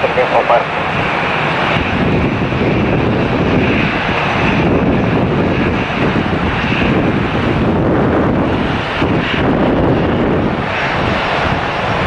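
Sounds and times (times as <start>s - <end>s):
jet engines running: 0.0s - 12.0s
wind buffeting microphone: 0.0s - 12.0s.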